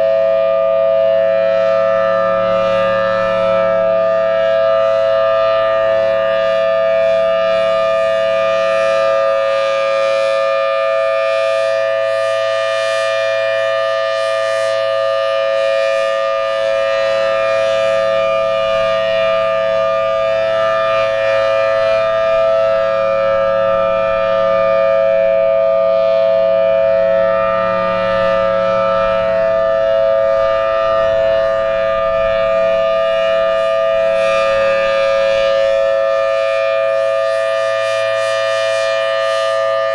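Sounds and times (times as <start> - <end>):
warning siren two-note chord: 0.0 - 39.9.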